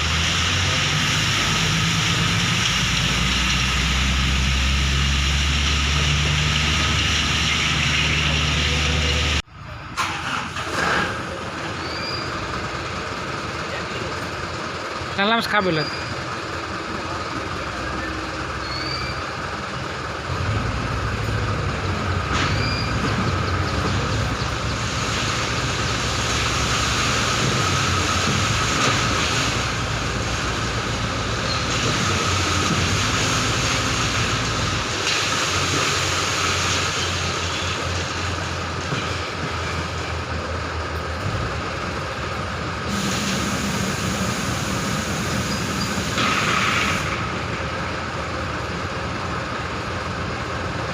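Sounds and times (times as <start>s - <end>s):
truck diesel engines running: 0.0s - 50.9s.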